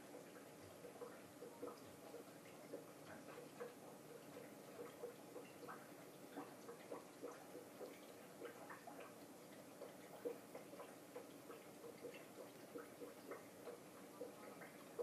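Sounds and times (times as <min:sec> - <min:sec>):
water dripping and bubbling: 0:00.0 - 0:15.0.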